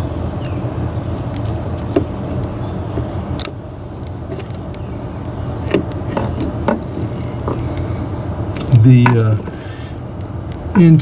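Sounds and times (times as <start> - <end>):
steady low hum: 0.0 - 11.0
clicks and knocks of engine parts: 0.4 - 11.0.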